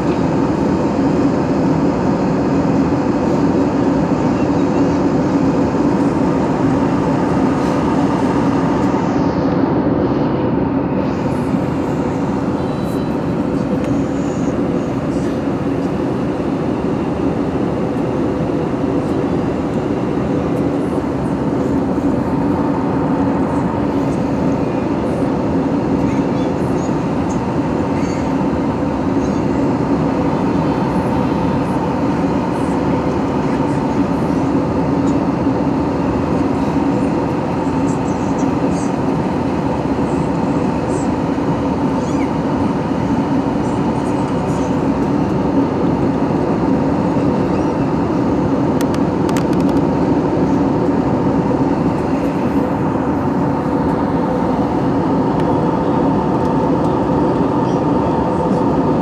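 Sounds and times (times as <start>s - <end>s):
airliner engine drone: 0.0s - 59.0s.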